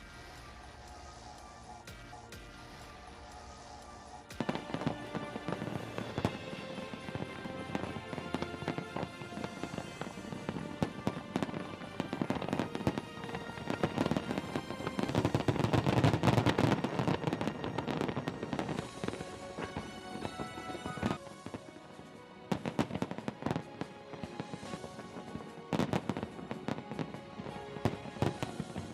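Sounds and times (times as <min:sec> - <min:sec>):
fireworks bangs and crackles: 0:00.0 - 0:28.9
music: 0:00.0 - 0:28.9.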